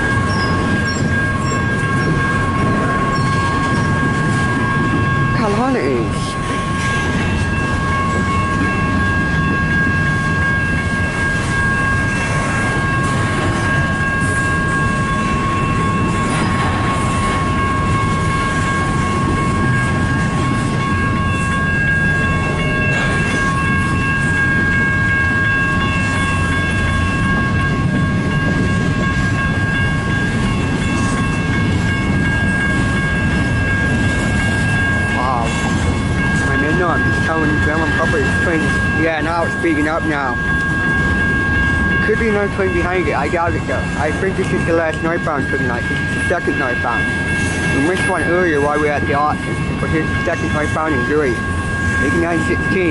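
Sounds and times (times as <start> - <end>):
freight train cars rumbling: 0.0 - 52.9.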